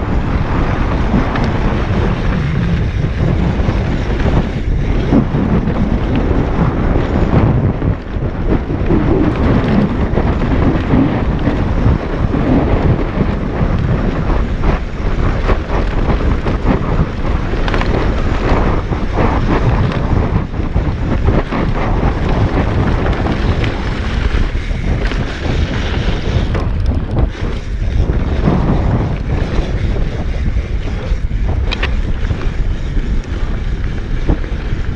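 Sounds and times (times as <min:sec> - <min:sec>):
bike knocking and rattling: 0:00.0 - 0:34.9
wind noise on microphone: 0:00.0 - 0:34.9.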